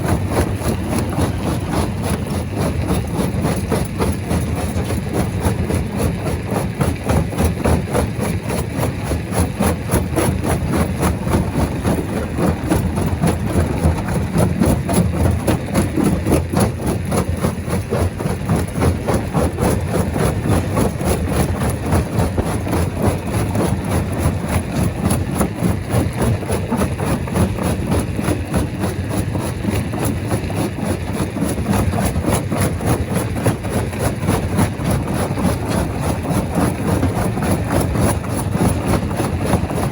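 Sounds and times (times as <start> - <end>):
rock crusher machine rumbling: 0.0 - 39.9.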